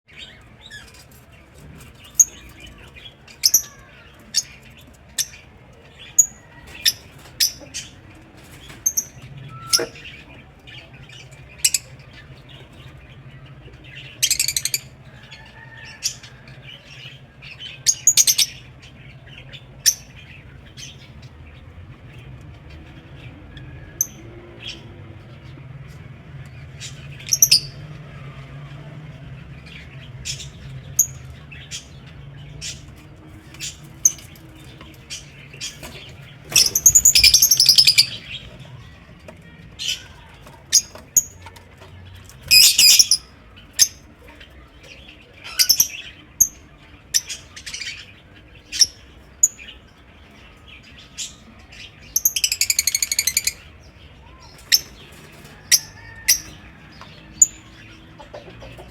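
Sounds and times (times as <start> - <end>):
lovebirds chattering rapidly: 0.1 - 28.0, 29.2 - 58.9
lovebirds chirping: 0.1 - 58.9.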